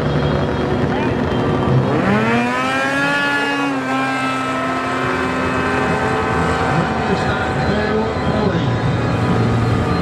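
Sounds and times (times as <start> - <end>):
snowmobile engine revving: 0.4 - 10.0.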